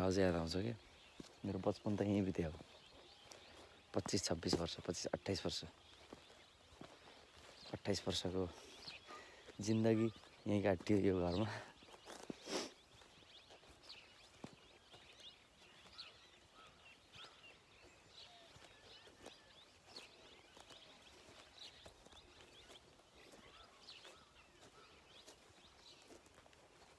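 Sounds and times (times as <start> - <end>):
faint birds chirping: 0.0 - 26.9.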